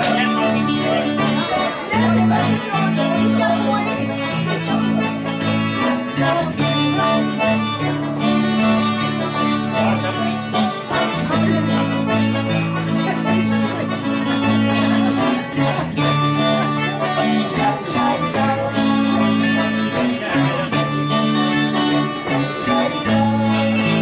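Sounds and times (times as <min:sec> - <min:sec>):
accordion playing a dance tune: 0:00.0 - 0:24.0.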